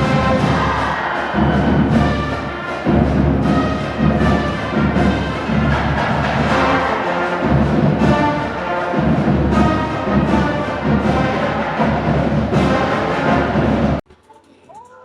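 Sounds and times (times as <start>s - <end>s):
held brass tones: 0.0s - 14.0s
orchestral music: 0.0s - 14.0s.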